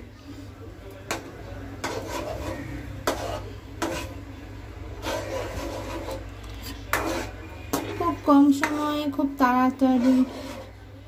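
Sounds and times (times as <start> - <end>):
spatula scraping a steel pan: 1.1 - 4.3, 5.0 - 10.9.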